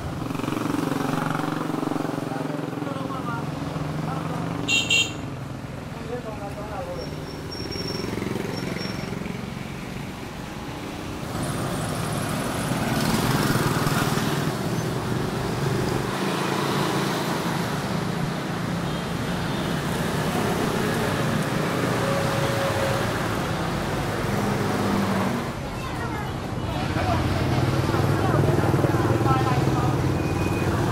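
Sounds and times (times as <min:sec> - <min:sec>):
cars passing: 0:00.0 - 0:30.9
motorbikes passing: 0:00.0 - 0:30.9.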